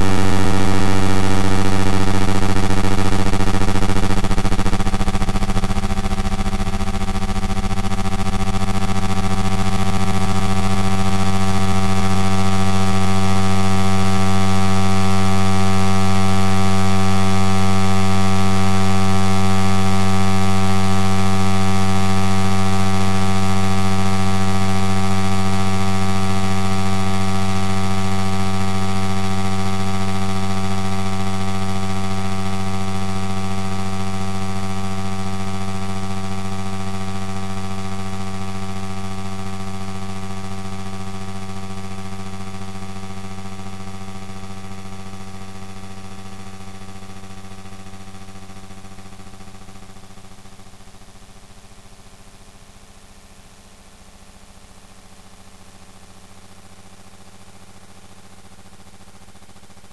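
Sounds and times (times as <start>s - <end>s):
droning hum with overtones: 0.0s - 51.5s.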